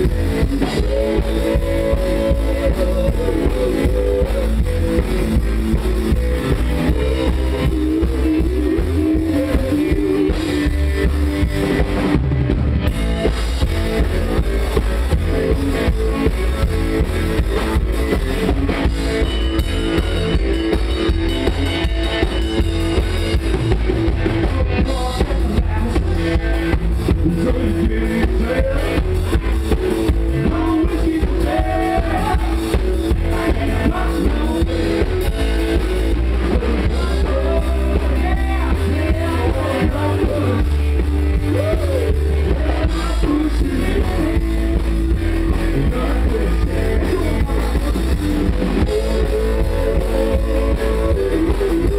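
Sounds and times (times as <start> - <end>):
country-rock band playing: 0.0 - 51.9.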